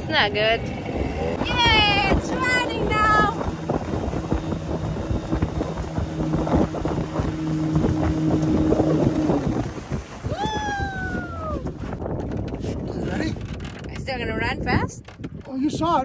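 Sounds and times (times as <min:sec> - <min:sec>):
outboard motor running: 0:00.0 - 0:16.0
water noise: 0:00.0 - 0:16.0
wind buffeting microphone: 0:00.0 - 0:16.0.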